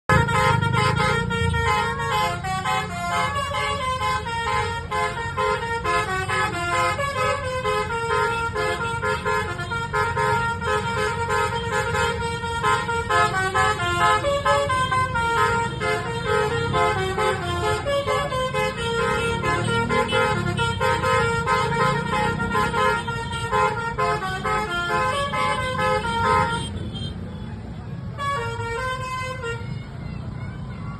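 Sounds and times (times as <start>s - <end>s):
bus horn playing melody: 0.1s - 27.2s, 28.1s - 29.8s.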